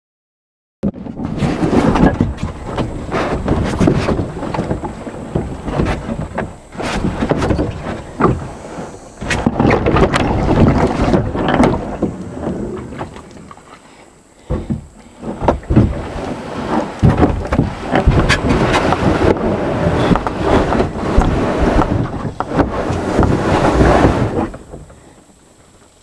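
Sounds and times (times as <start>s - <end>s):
wind rumbling on microphone: 0.8s - 13.8s, 14.4s - 26.0s
knocks and scrapes on kayak hull: 0.8s - 26.0s.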